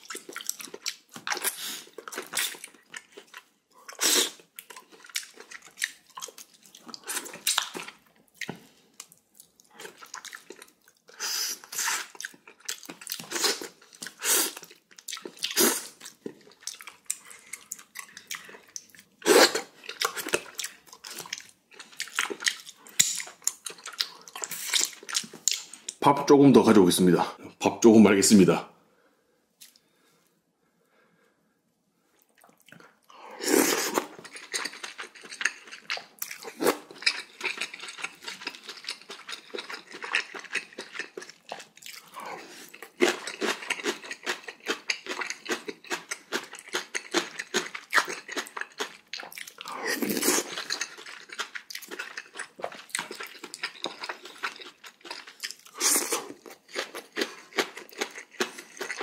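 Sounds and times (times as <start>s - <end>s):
person crunching and chewing: 0.0s - 26.0s, 32.2s - 59.0s.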